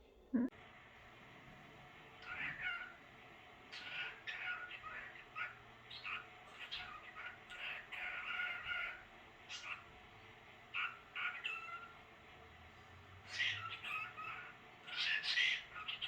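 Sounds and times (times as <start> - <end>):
cockatiel chirping and chattering: 2.1 - 16.0.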